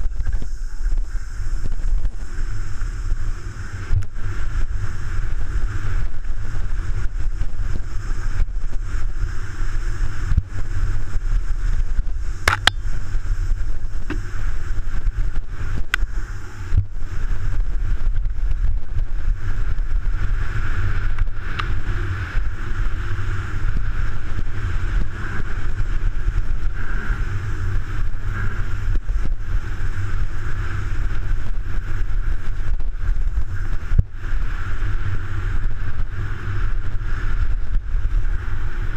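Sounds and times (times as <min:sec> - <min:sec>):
bike tyre and frame rattle: 0:00.0 - 0:38.9
wind rumble on microphone: 0:00.0 - 0:38.9.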